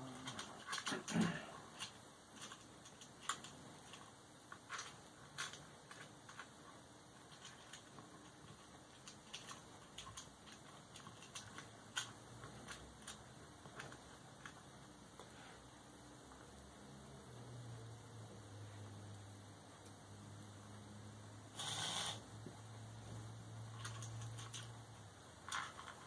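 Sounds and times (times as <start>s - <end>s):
low room hiss: 0.0s - 26.0s.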